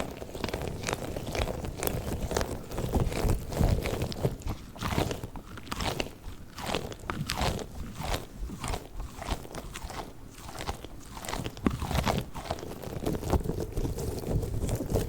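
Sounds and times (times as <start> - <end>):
squishy balls squeezed crunchy: 0.0 - 15.0.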